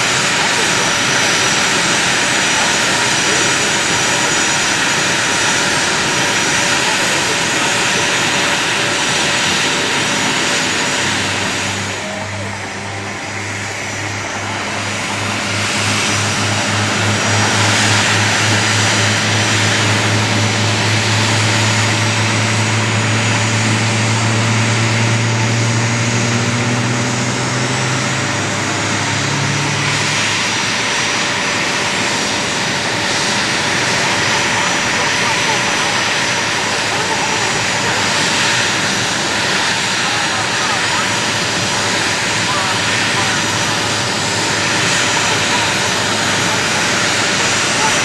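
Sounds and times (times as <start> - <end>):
jet engine roar with whine: 0.0 - 48.0.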